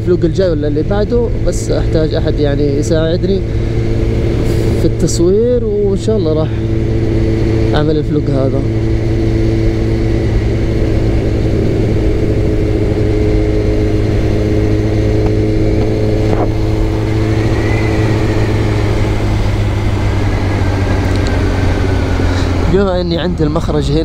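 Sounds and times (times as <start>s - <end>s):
motorcycle engine running steadily: 0.0s - 24.0s
road and wind noise: 0.0s - 24.0s.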